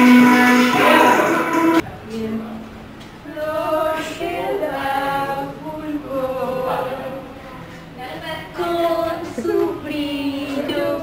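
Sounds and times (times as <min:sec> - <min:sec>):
two women singing a cappella: 0:00.0 - 0:11.0.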